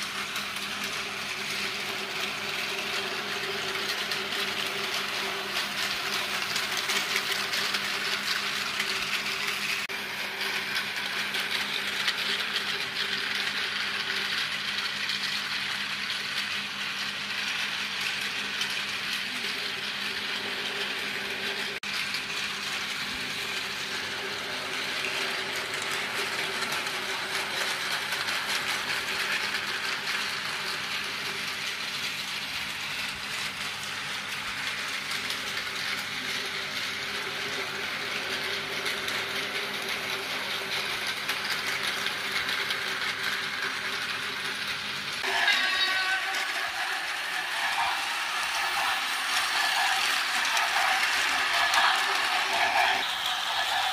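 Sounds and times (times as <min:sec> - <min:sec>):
plastic wheels rattling on track: 0:00.0 - 0:53.9
toy train motors humming: 0:00.0 - 0:53.9.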